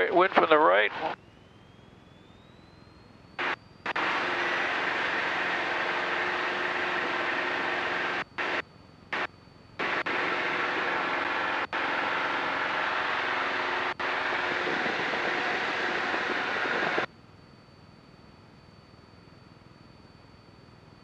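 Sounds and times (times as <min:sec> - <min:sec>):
light aircraft engine and propeller drone: 0:00.0 - 0:21.0.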